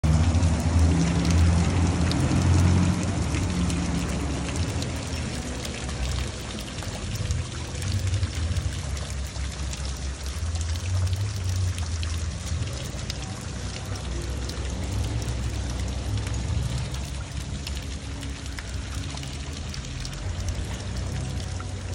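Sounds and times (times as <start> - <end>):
fountain water splashing: 0.0 - 21.9.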